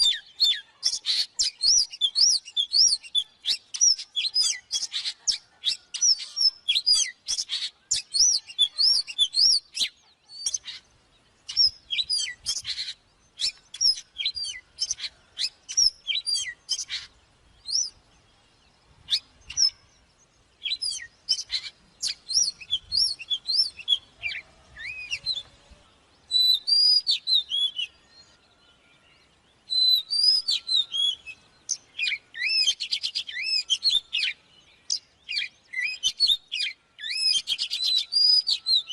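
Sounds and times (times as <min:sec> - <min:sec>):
songbird whistling and chattering: 0:00.0 - 0:18.0, 0:18.9 - 0:19.9, 0:20.6 - 0:25.6, 0:26.2 - 0:28.4, 0:29.6 - 0:38.9.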